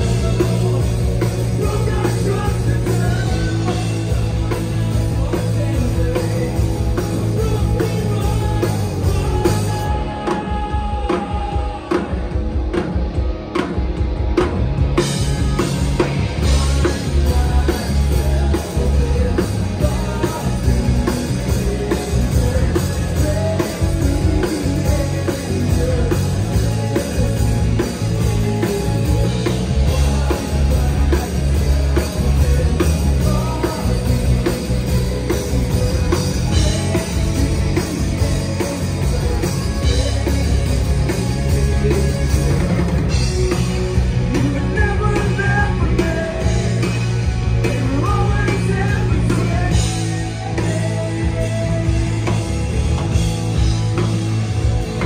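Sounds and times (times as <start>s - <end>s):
distorted electric guitars: 0.0s - 55.0s
drum kit: 0.0s - 55.0s
electric bass guitar: 0.0s - 55.0s.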